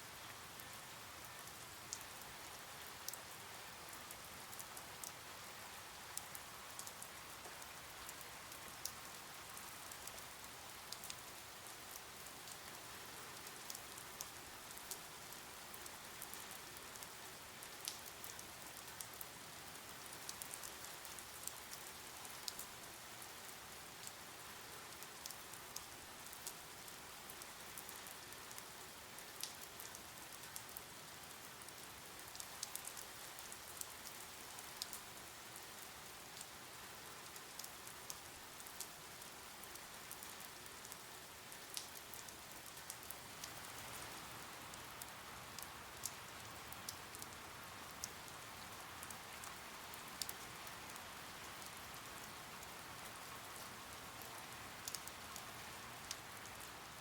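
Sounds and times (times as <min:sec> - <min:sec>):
raindrops ticking on a surface: 0:00.1 - 0:57.0.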